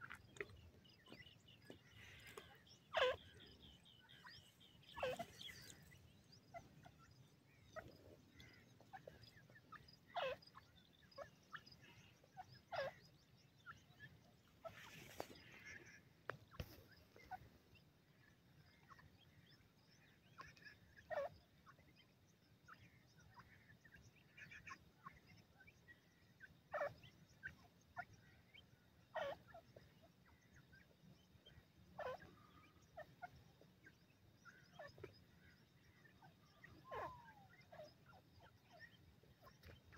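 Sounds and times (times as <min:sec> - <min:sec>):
francolin calls: 0:00.0 - 0:39.9.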